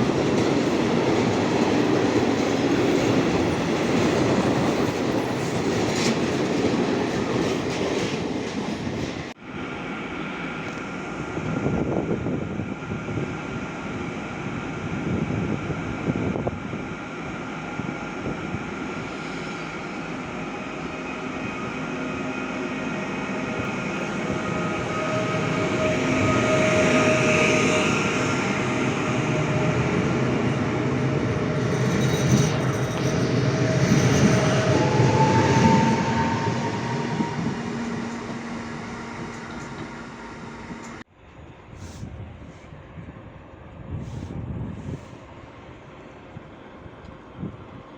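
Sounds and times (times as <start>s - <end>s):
train wheels rolling on rail: 0.0s - 47.9s.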